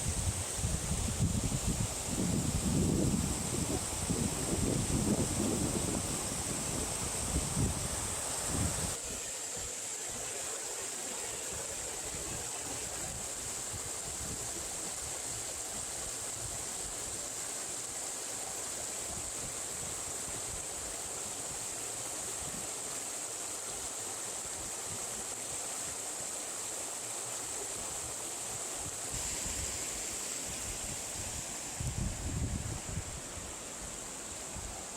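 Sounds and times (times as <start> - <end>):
stream flowing: 0.0 - 34.9.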